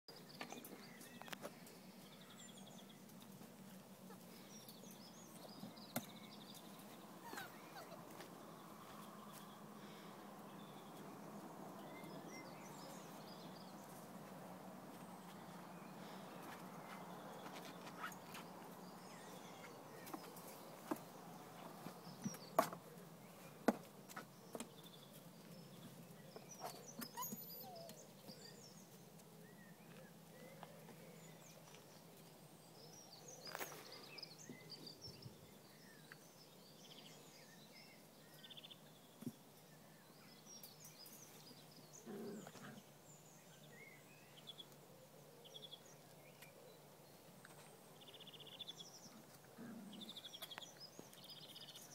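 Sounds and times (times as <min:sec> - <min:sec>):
small birds chirping: 0:00.1 - 0:51.9.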